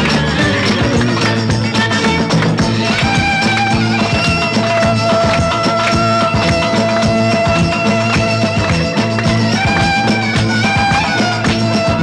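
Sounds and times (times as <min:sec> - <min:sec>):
fast percussion beat: 0:00.0 - 0:12.0
lively folk music: 0:00.0 - 0:12.0.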